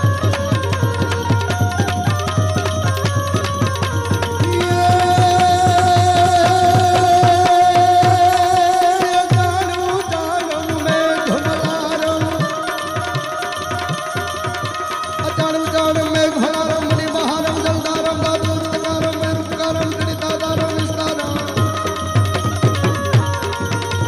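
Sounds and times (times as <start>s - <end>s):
hand drums rhythm: 0.0s - 24.0s
held melody line: 0.0s - 24.0s.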